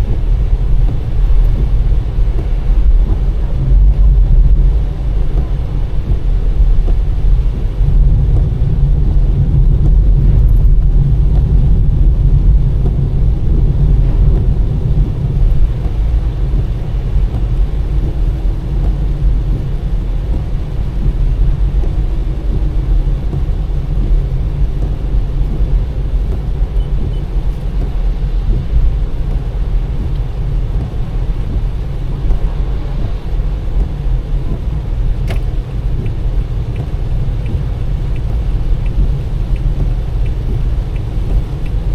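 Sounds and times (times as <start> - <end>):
car engine rumble: 0.0 - 41.9
tyres on wet road: 0.0 - 41.9.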